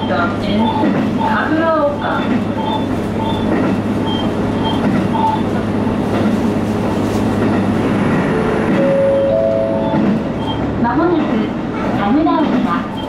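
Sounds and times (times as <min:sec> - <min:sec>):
railcar low drone: 0:00.0 - 0:13.0
wheels rumbling on rails: 0:00.0 - 0:13.0.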